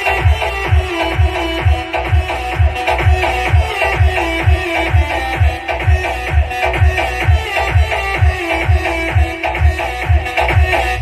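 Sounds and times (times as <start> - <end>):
electronic dance music: 0.0 - 11.0
heavy kick drum: 0.0 - 11.0.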